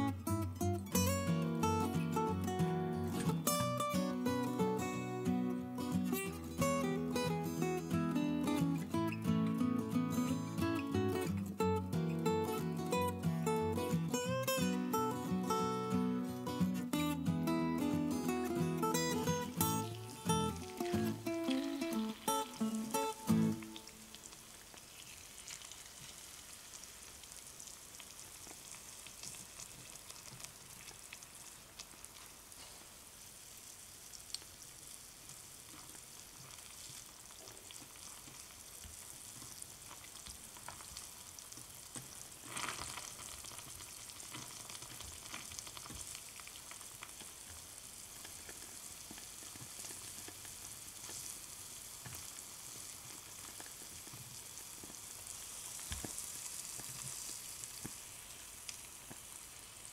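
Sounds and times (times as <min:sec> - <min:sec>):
oil sizzling in deep-frying: 0:00.0 - 0:59.9.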